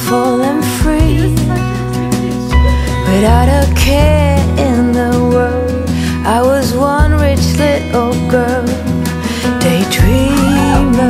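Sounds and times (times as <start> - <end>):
song with guitar bass and beat: 0.0 - 11.0
woman singing: 0.0 - 11.0.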